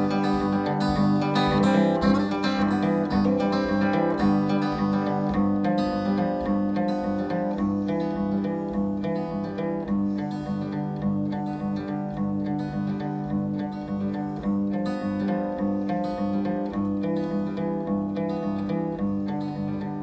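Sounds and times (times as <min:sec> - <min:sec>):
acoustic guitar: 0:00.0 - 0:20.0.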